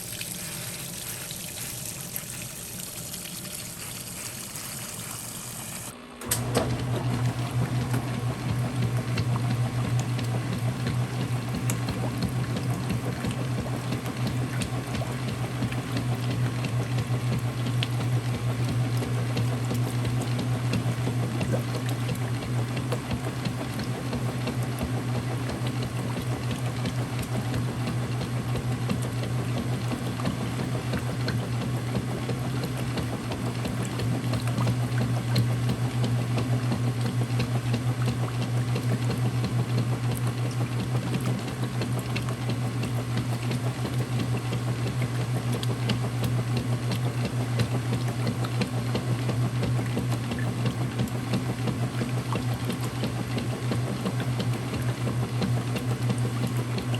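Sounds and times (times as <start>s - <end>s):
water churning and splashing: 0.0s - 5.9s, 6.6s - 56.9s
washer motor hum: 0.0s - 56.9s.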